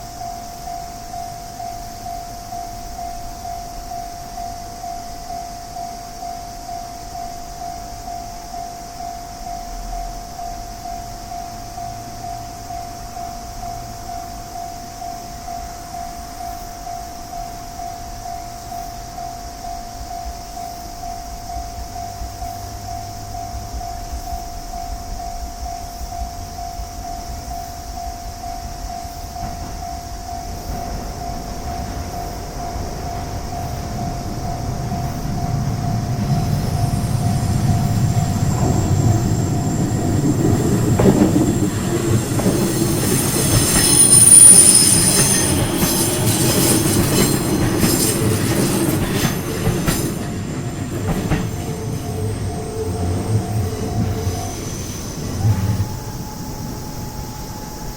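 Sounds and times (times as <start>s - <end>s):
electric train rumble: 0.0s - 57.9s
level-crossing alarm ringing: 0.0s - 57.9s
train wheel squeal: 0.0s - 57.9s.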